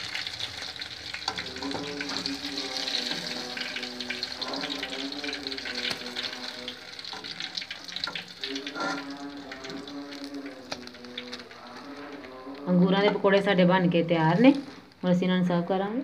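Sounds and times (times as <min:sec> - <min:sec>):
hot oil sizzling and crackling: 0:00.0 - 0:14.9.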